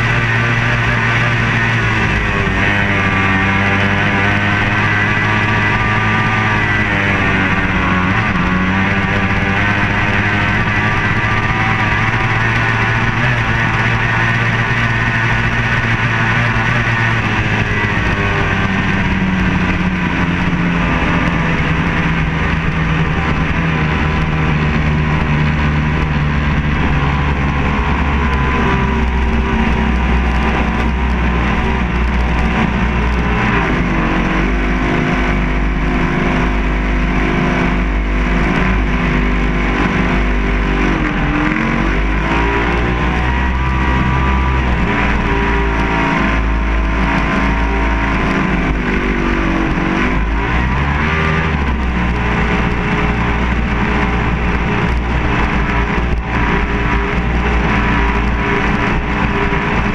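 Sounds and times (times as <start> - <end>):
outboard engine running hard: 0.0 - 59.9.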